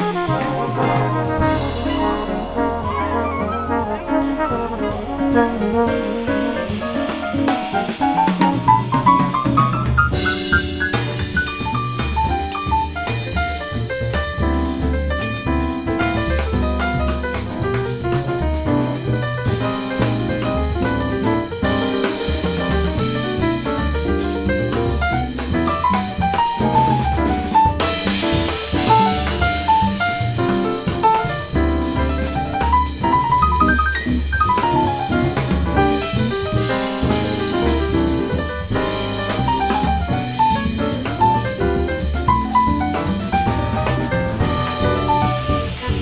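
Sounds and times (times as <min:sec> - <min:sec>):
big band jazz: 0:00.0 - 0:46.0.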